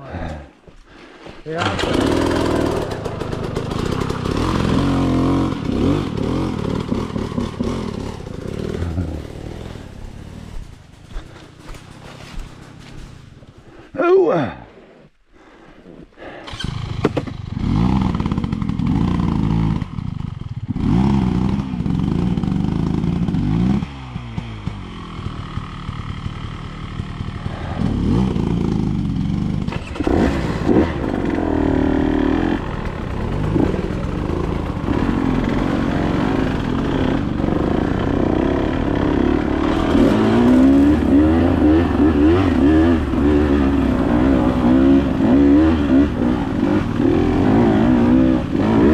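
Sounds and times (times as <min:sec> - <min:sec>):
dirt bike engine revving: 0:01.5 - 0:12.9, 0:16.2 - 0:48.9.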